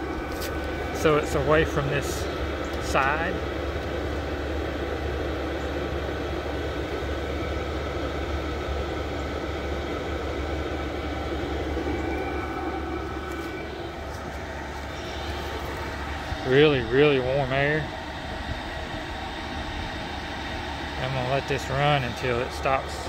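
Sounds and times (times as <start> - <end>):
faint fan motor hum: 0.0 - 23.0
heater blower rushing air: 0.0 - 23.0.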